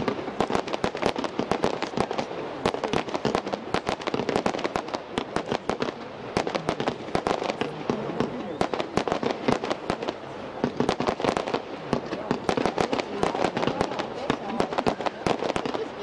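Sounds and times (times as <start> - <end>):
fireworks cracking and banging: 0.0 - 16.0
fireworks crackle: 0.0 - 16.0.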